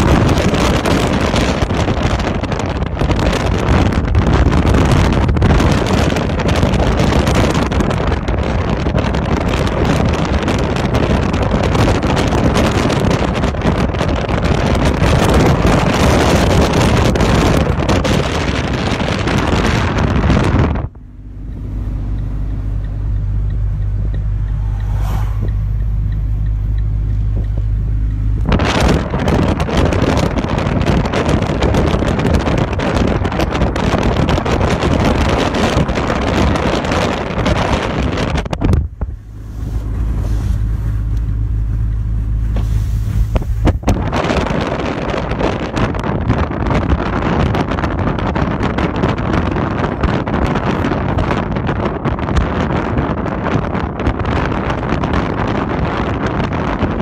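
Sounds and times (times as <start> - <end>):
low steady rumble: 0.0 - 57.0
strong wind on microphone: 0.0 - 57.0.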